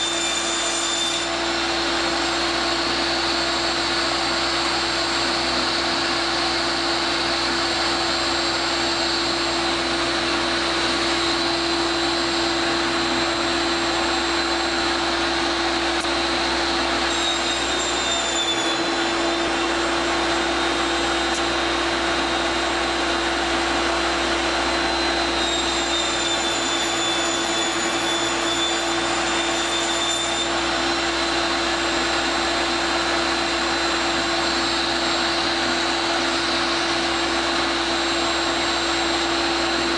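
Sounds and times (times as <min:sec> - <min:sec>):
electric motor whirring with whine: 0:00.0 - 0:39.9.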